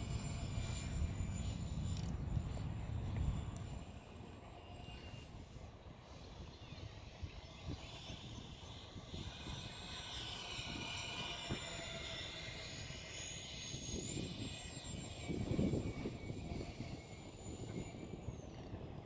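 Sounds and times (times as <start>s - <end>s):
model aircraft propellers whining: 0.0s - 19.0s.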